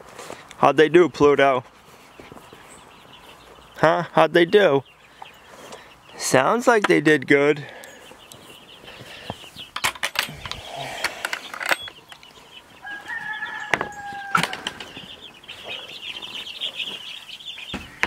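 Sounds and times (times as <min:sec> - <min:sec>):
chicks and ducklings peeping: 0:00.0 - 0:18.0.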